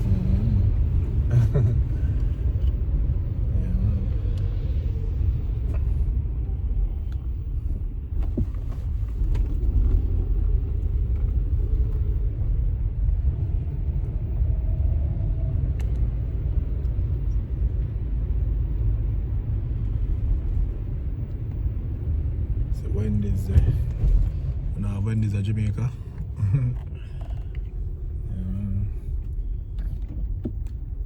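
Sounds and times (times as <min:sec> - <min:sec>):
car road noise rumble: 0:00.0 - 0:31.0.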